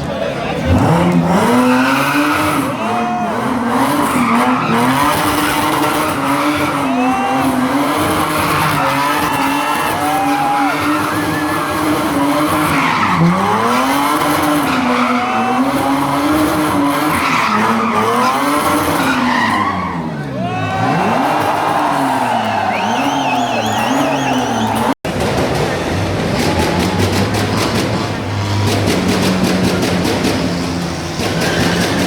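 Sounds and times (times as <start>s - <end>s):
car engine revving hard: 0.4s - 32.0s.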